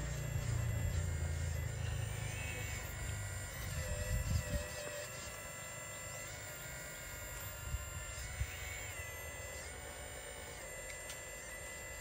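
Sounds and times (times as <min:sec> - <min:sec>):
toy excavator motor whine: 0:00.0 - 0:12.0.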